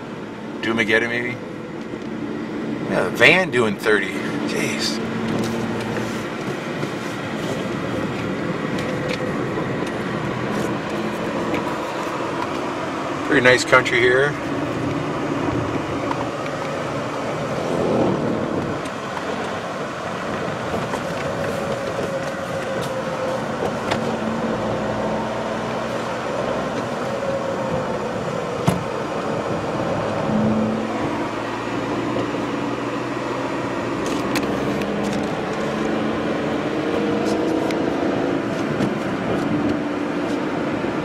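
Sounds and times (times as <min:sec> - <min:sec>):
car engine hum and road noise: 0:00.0 - 0:41.0.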